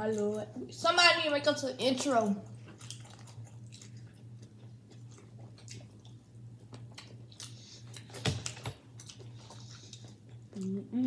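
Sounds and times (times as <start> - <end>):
people chewing with wet smacking: 0.0 - 0.8, 1.8 - 11.0.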